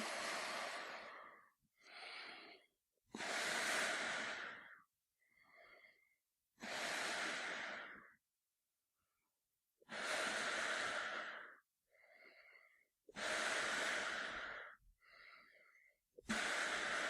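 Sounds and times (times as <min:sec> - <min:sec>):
breathing through a gas mask: 0:00.0 - 0:08.2, 0:09.8 - 0:17.0.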